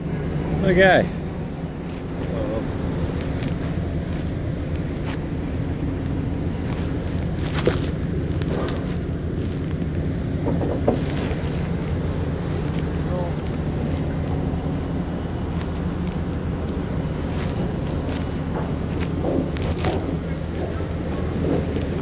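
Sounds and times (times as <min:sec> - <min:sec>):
heavy engine machinery droning: 0:00.0 - 0:22.0.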